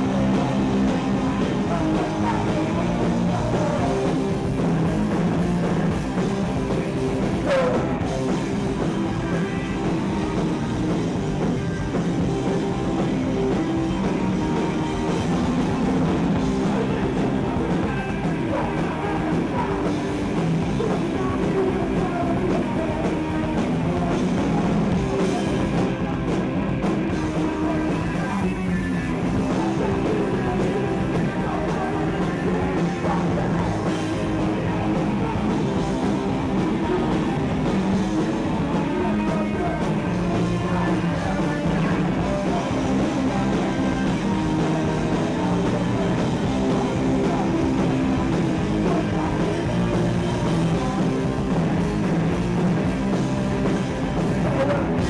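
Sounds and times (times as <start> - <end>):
distorted electric guitar: 0.0 - 55.0
drum kit: 0.0 - 55.0.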